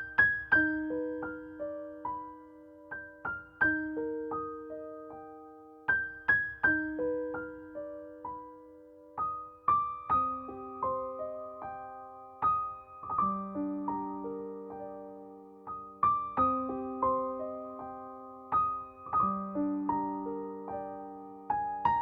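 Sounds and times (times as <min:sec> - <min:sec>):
piano notes and soft chords: 0:00.0 - 0:22.0.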